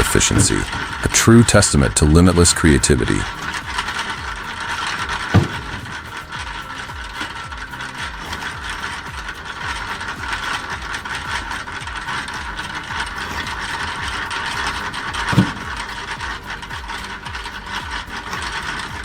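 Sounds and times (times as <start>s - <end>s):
wood splitter clattering: 0.0s - 19.0s
heavy thump: 3.2s - 19.0s.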